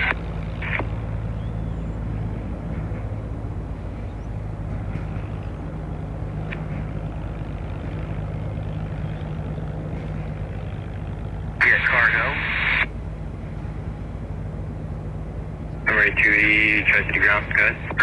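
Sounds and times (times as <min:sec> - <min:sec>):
distant helicopter drone: 0:00.0 - 0:18.0.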